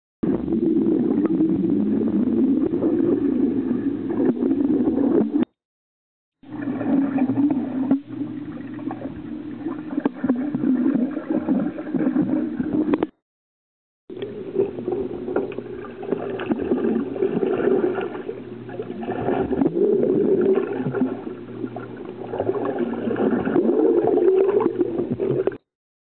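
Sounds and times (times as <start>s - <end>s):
muffled underwater bubbling: 0.2s - 5.6s, 6.4s - 13.2s, 14.1s - 25.6s.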